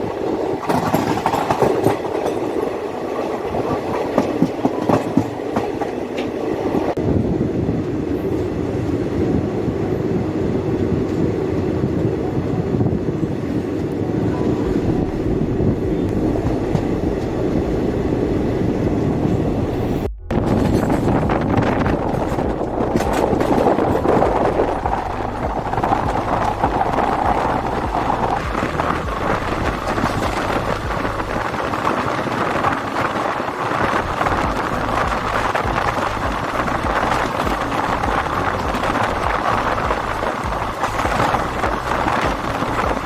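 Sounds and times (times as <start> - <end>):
train wheels rumbling on rails: 0.0 - 43.0
wind rush: 0.0 - 43.0.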